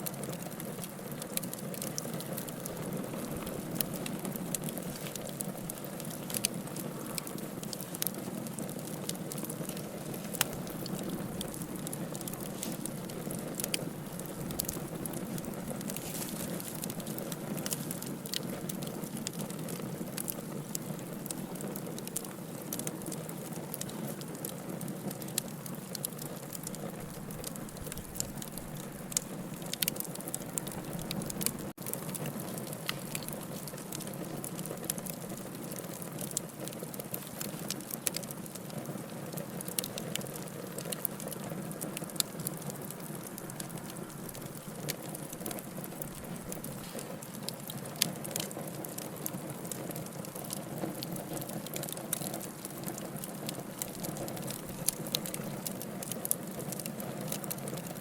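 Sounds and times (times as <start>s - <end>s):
fire crackling and hissing: 0.0s - 58.0s
fire popping: 0.0s - 58.0s.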